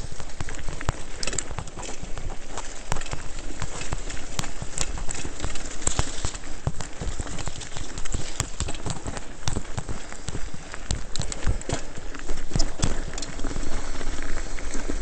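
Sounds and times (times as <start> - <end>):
mountain bike rattling over rocks: 0.0 - 15.0.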